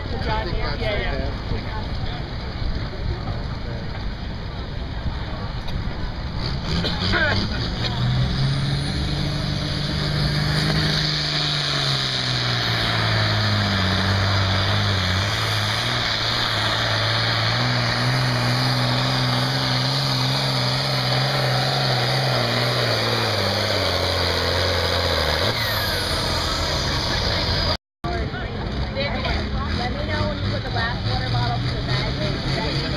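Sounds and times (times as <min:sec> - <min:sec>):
tractor engine under heavy load: 0:00.0 - 0:32.9.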